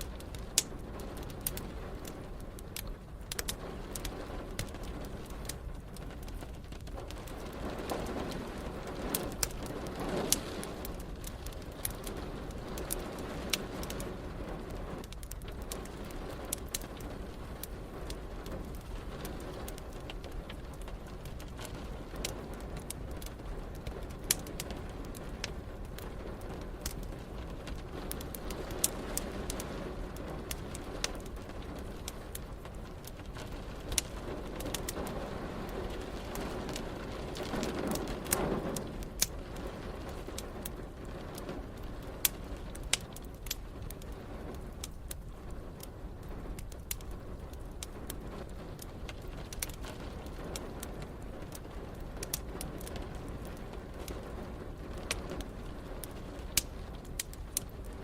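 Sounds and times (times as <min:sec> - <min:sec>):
rain hissing: 0:00.0 - 0:58.0
wood fire crackling and popping: 0:00.0 - 0:58.0.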